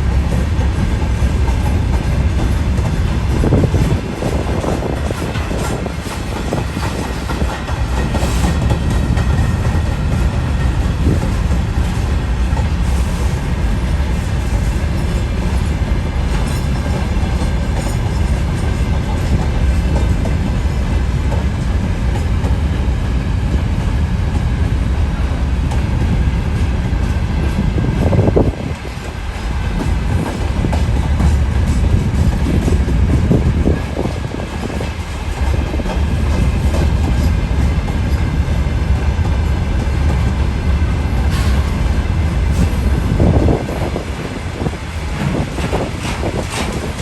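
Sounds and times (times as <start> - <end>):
train rumbling with wheel clatter: 0.0 - 47.0.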